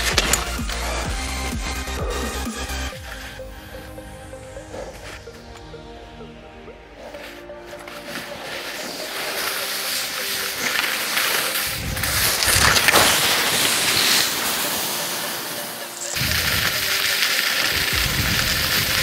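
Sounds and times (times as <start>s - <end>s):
skis scraping across snow: 0.0s - 5.8s, 6.9s - 19.0s.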